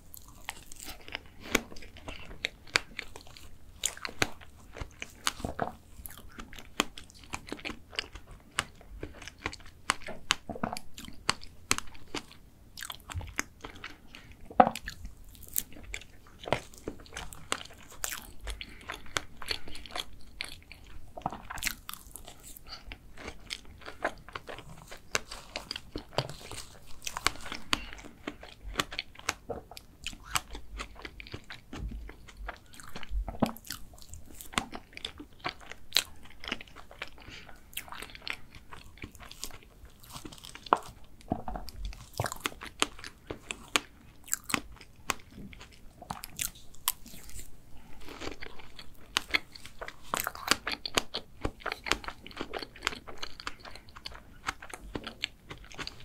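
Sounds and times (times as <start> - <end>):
chewing soft dessert: 0.0 - 56.0.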